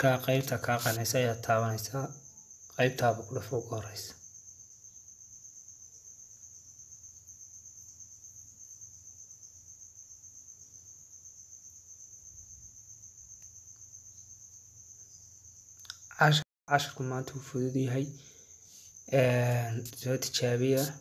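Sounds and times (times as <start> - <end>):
high-pitched insect-like trill: 0.0 - 21.0.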